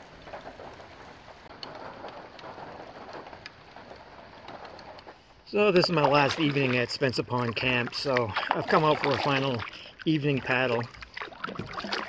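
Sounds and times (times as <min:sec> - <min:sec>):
rain falling: 0:00.0 - 0:12.0
raindrops ticking on surface: 0:00.0 - 0:12.0.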